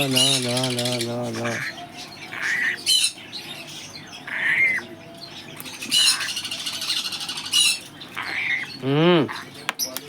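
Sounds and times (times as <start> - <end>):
parrot squawking: 0.0 - 5.0, 5.7 - 9.6.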